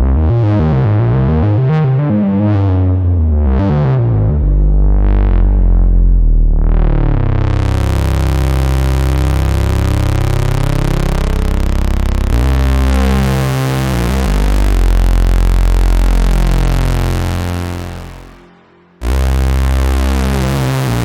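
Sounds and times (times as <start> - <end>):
synthesizer low sustained notes: 0.0 - 21.0.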